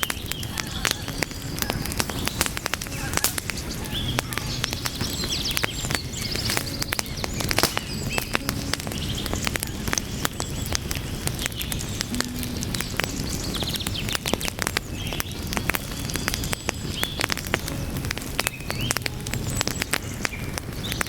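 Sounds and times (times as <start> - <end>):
burning logs crackling: 0.0 - 21.0
low rumble of flame: 0.0 - 21.0.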